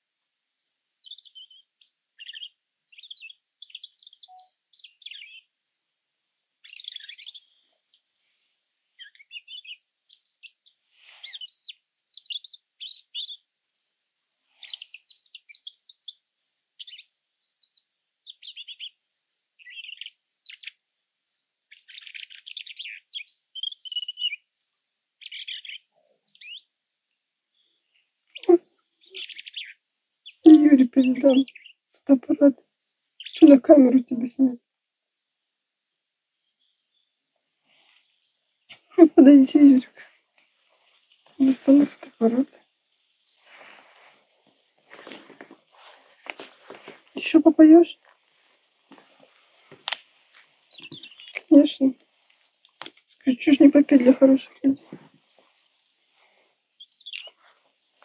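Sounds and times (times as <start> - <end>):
robin singing: 0.6 - 26.7, 27.6 - 34.6, 37.8 - 44.1, 44.9 - 58.0.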